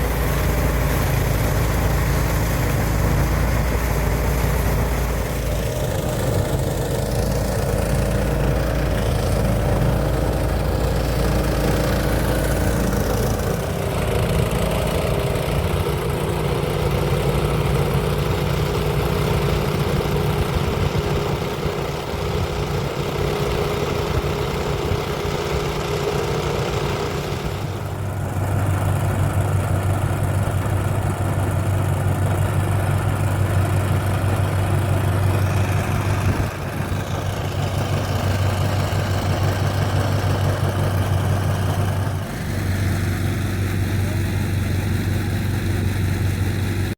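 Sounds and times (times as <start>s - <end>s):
threshing machine engine running: 0.0s - 46.9s.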